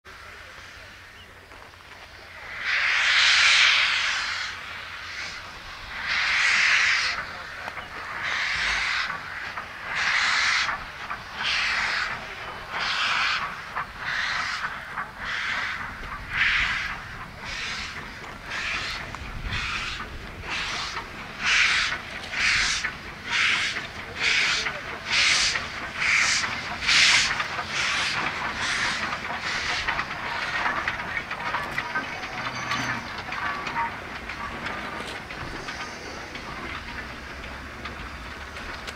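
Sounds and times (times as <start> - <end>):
steam locomotive exhaust chuffing: 0.1 - 38.9.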